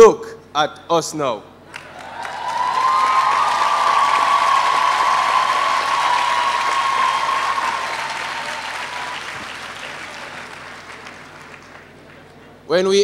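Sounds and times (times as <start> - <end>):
large audience applauding: 1.7 - 12.4.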